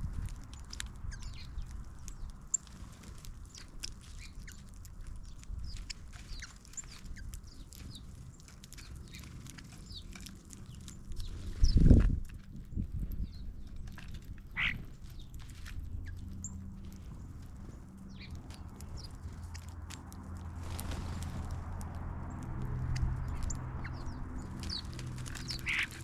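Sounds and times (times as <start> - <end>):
small birds chirping: 0.0 - 26.0
steady low rumble: 0.0 - 26.0.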